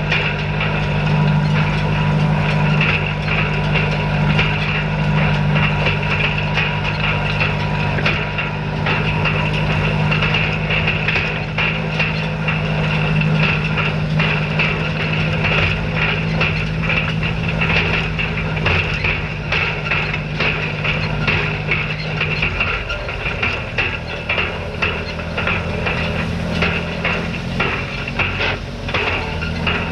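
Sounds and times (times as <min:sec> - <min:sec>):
knocks and rattles: 0:00.0 - 0:29.9
tractor engine running: 0:00.0 - 0:29.9.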